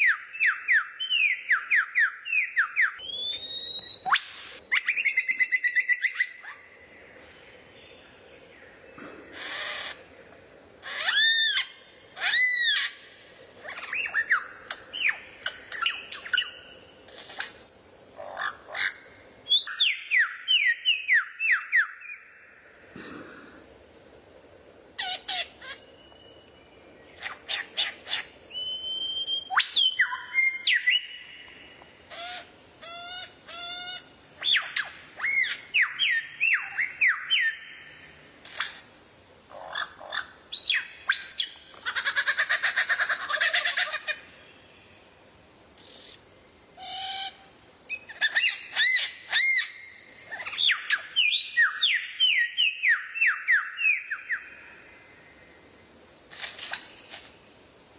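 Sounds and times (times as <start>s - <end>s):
songbird singing: 0.0s - 57.9s.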